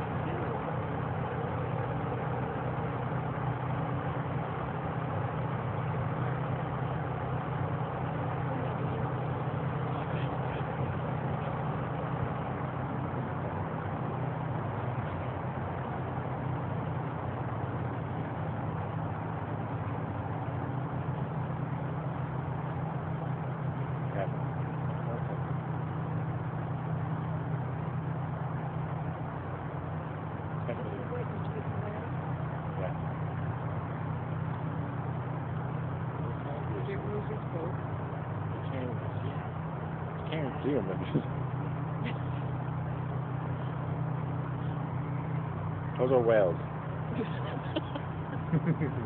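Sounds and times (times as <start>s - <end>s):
constant background noise: 0.0s - 49.0s
engine idling hum: 0.0s - 49.0s.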